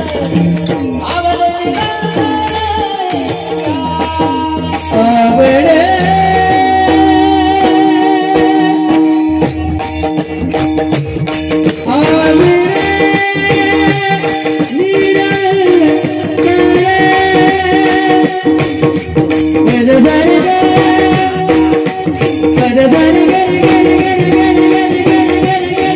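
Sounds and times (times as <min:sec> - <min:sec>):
folk music over sound system: 0:00.0 - 0:25.9.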